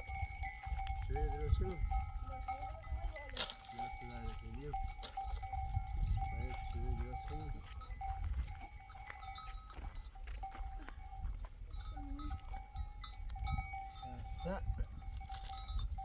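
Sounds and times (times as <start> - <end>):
neck bells clinking: 0.0 - 16.0.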